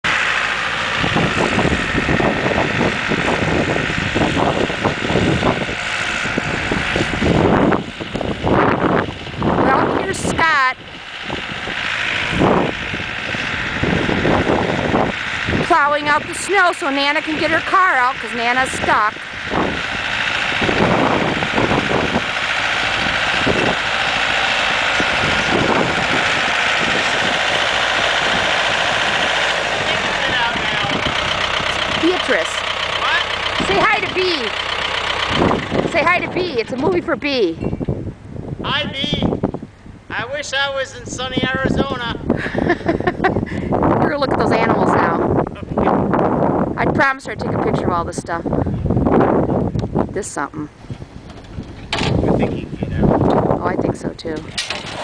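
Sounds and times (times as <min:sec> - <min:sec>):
tractor engine running: 0:00.0 - 0:55.0
wind buffeting microphone: 0:00.0 - 0:55.0.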